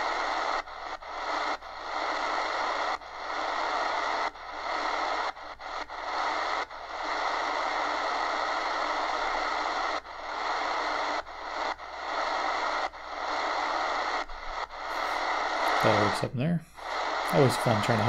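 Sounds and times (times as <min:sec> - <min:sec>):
radio static hissing: 0:00.0 - 0:18.0.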